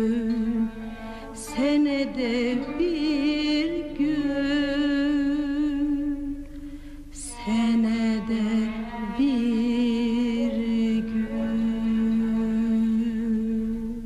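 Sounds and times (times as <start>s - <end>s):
person singing long held notes: 0.0s - 14.0s.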